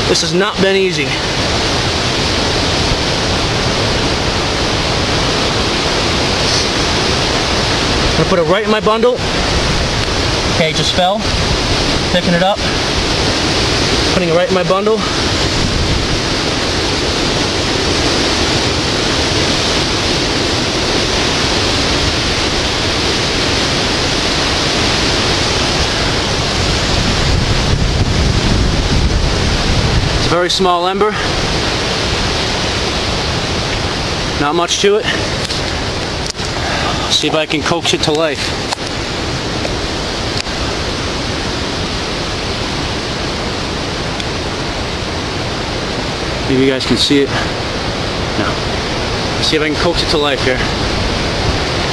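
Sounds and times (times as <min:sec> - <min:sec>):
hurricane wind and rain: 0:00.0 - 0:51.9.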